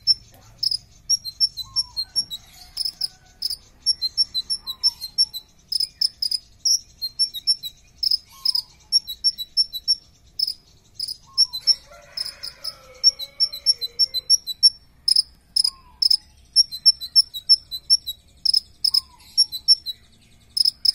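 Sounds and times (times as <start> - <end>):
bird high-pitched chirps: 0.0 - 20.9
lower bird warbling: 0.0 - 20.9.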